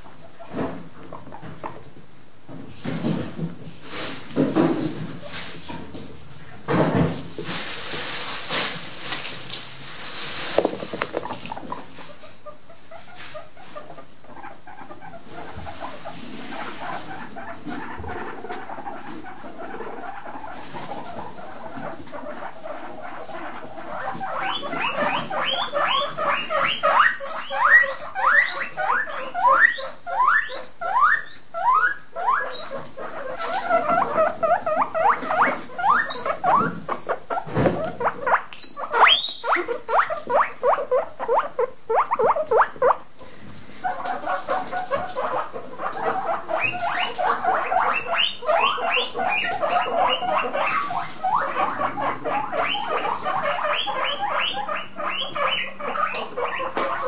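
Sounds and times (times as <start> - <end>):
guinea pigs squealing: 11.0 - 57.0.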